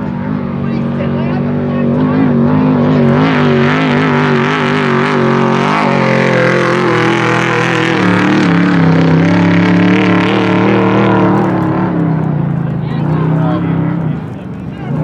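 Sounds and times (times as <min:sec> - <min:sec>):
truck engine revving high: 0:00.0 - 0:15.0.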